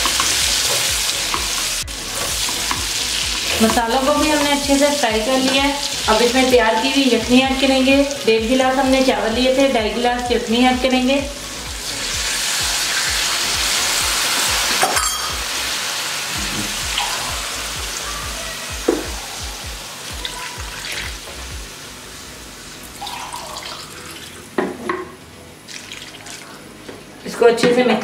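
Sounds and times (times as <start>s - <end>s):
liquid sizzling in hot oil: 0.0s - 24.6s, 25.6s - 26.8s.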